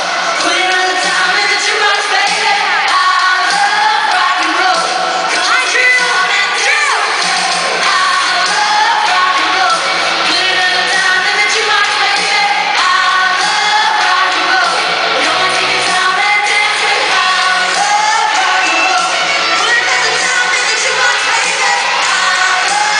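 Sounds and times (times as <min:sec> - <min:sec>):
live band playing pop song: 0:00.0 - 0:22.9
woman singing lead: 0:00.0 - 0:22.9.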